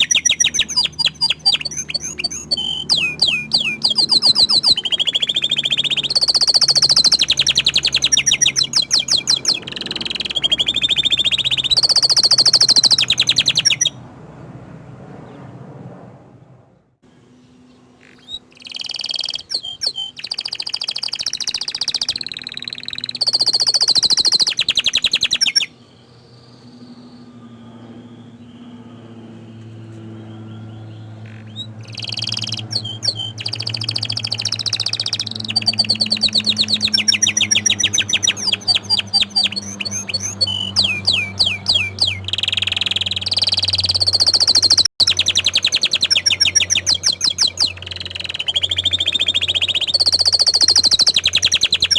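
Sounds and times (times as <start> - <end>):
canary singing trills: 0.0 - 14.0, 17.3 - 51.9.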